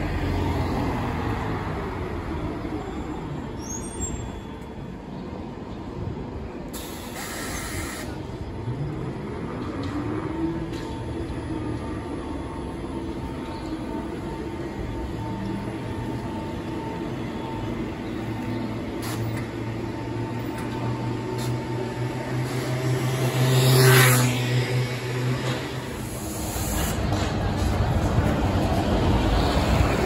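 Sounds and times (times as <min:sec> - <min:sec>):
trolleybus traction whine: 0:00.0 - 0:30.0.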